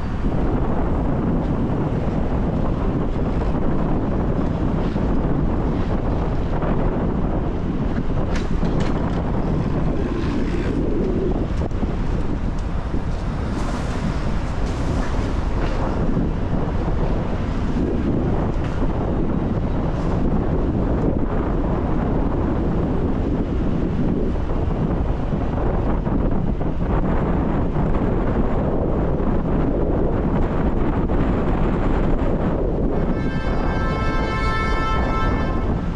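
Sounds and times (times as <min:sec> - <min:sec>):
city traffic: 0:00.0 - 0:35.9
wind buffeting microphone: 0:00.0 - 0:35.9.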